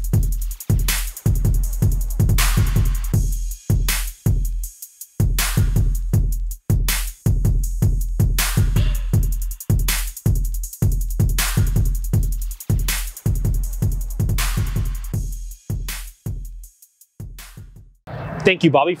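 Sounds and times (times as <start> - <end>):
electronic music with heavy beat: 0.0 - 17.8.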